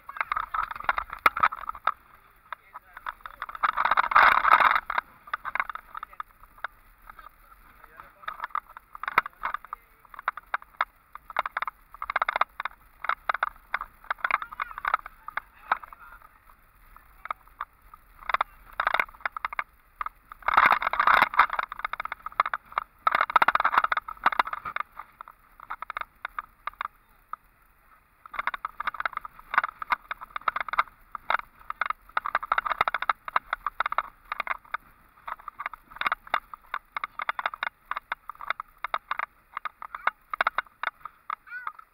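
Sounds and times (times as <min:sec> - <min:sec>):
vehicle rattling on rough road: 0:00.0 - 0:41.9.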